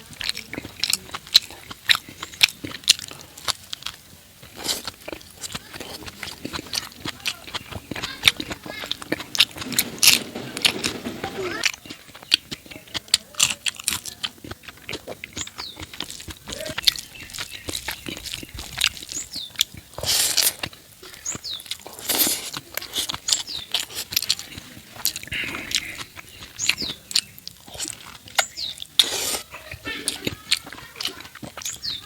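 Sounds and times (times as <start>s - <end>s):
wet chewing and lip smacks: 0.0s - 32.0s.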